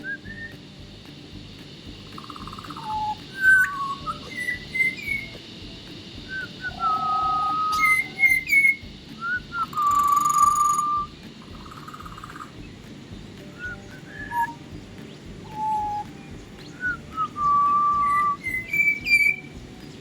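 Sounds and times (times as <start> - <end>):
birds whistling calls: 0.0 - 20.0
harsh bird calls: 0.0 - 20.0
rain and river hiss: 0.0 - 20.0.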